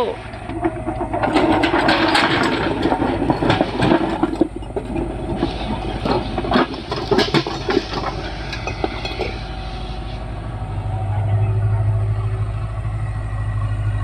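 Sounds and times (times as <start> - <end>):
clanks and rattles: 0.0 - 11.4
diesel engine running: 0.0 - 14.0.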